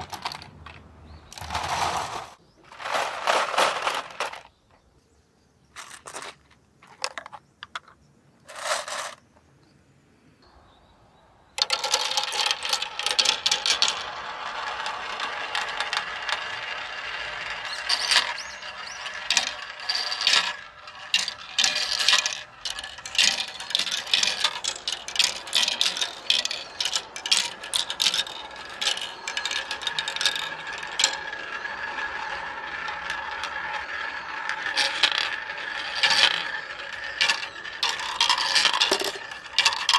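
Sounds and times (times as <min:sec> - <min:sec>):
marbles rattling through plastic run: 0:00.0 - 0:04.5, 0:08.5 - 0:09.2, 0:11.6 - 0:39.9.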